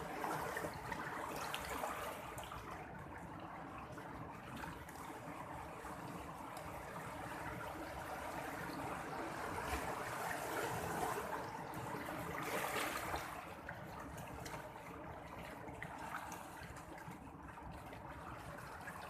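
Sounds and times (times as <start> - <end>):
small waves washing: 0.0 - 19.0.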